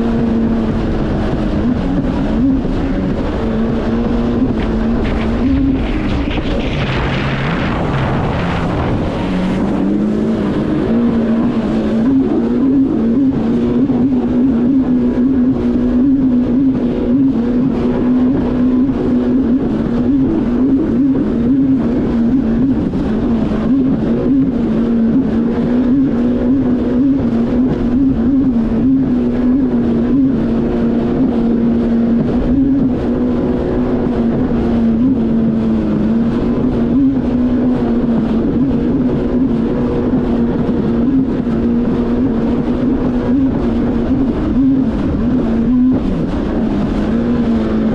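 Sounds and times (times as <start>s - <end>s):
jet ski engine running: 0.0s - 47.9s
water rushing: 0.0s - 47.9s
wind noise: 0.0s - 47.9s.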